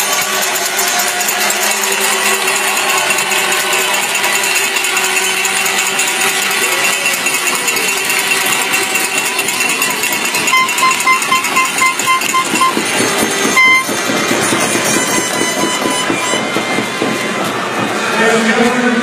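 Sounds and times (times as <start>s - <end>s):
crowd cheering and shouting: 0.0s - 19.0s
noisemakers rattling: 0.0s - 19.0s.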